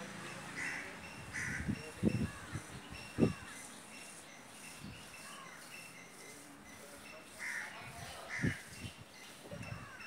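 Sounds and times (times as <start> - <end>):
faint bird chirping: 1.0 - 10.0.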